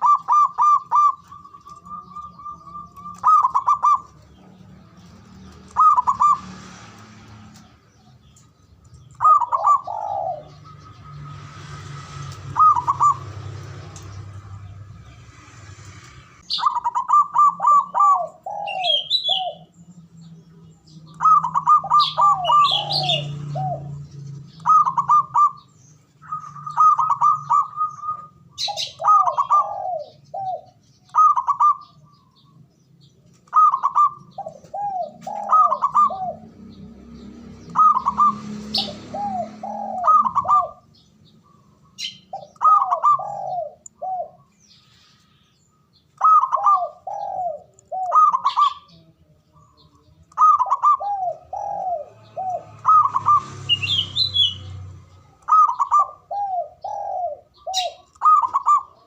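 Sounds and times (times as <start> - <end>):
dove cooing song: 0.0 - 59.0
high bird chirps: 0.0 - 59.0.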